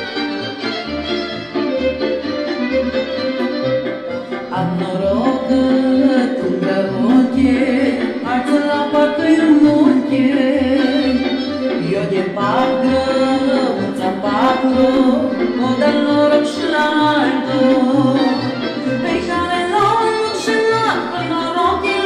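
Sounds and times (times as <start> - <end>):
instrumental backing with bass line: 0.0 - 22.0
woman singing folk song: 4.3 - 22.0.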